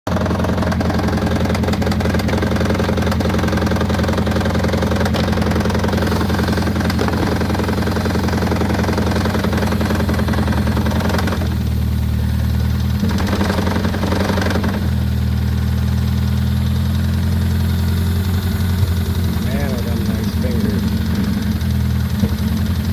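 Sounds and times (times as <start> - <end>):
car engine knocking: 0.1 - 22.9.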